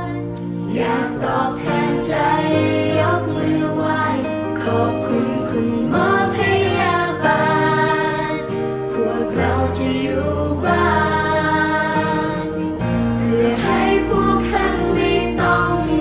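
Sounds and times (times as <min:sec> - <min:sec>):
song with singing: 0:00.0 - 0:16.0.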